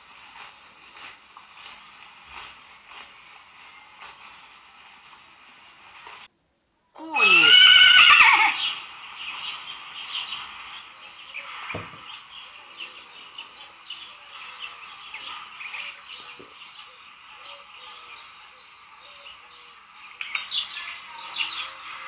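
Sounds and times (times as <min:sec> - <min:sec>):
small birds chirping: 0:00.0 - 0:06.3, 0:07.1 - 0:22.0.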